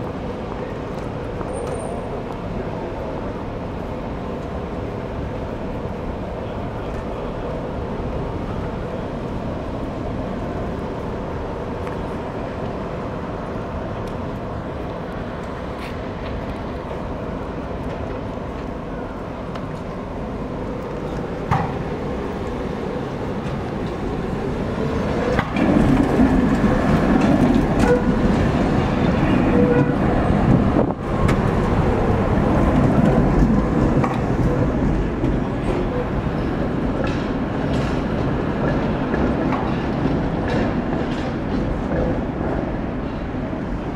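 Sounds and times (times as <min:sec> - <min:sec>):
tram motor whine: 0:00.0 - 0:43.9
tram wheels rolling on rails: 0:00.0 - 0:43.9.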